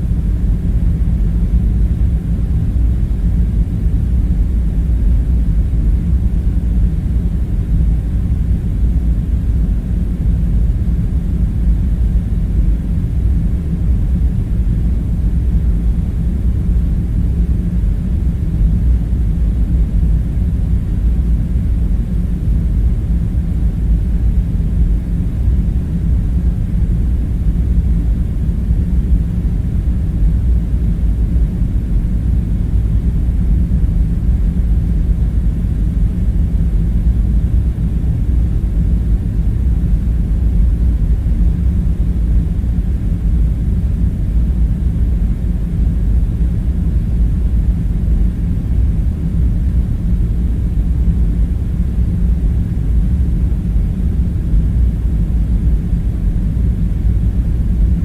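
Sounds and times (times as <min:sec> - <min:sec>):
low machinery drone: 0:00.0 - 0:58.0.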